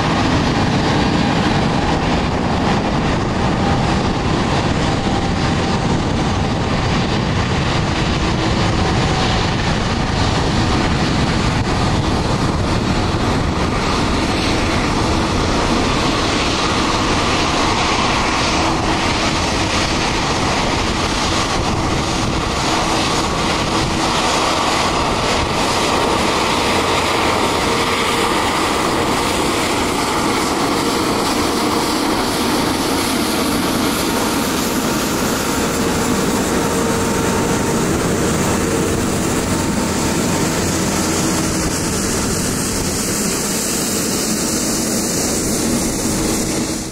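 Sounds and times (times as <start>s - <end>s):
jet engine roar: 0.0s - 46.9s.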